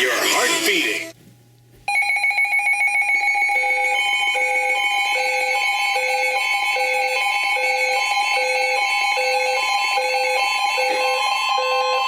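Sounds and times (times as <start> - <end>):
shrill two-tone alarm: 1.9 - 12.0.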